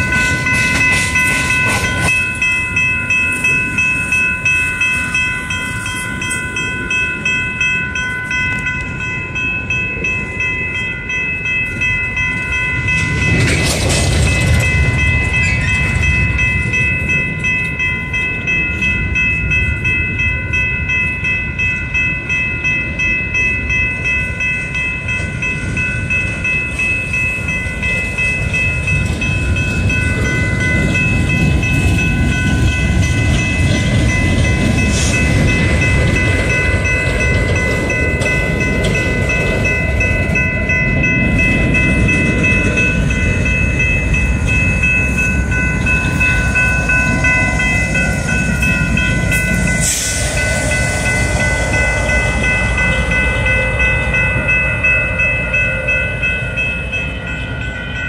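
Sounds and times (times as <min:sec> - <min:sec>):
crossing bell ringing: 0:00.0 - 0:58.0
freight train rumble and clatter: 0:00.0 - 0:58.0.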